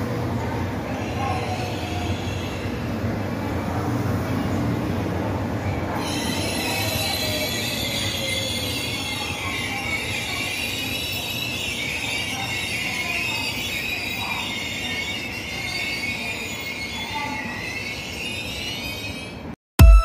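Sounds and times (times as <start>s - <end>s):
train wheels squealing on track: 0.0s - 19.6s.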